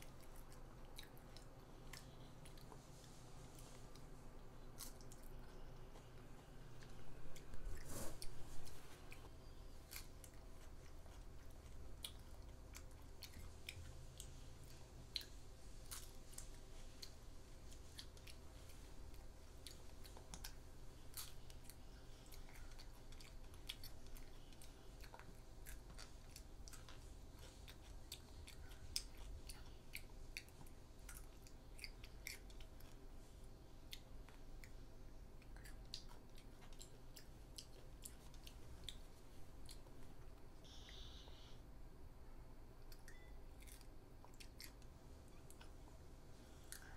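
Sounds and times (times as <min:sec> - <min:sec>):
child chewing crunchy vegetables: 0:00.0 - 0:41.0, 0:42.8 - 0:46.9
faint steady low hum: 0:00.0 - 0:46.9.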